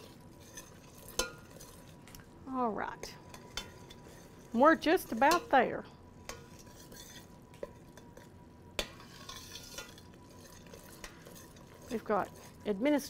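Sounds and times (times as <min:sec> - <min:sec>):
spoon scraping saucepan: 0:00.0 - 0:02.1, 0:03.1 - 0:13.0
syrup boiling: 0:00.0 - 0:13.0.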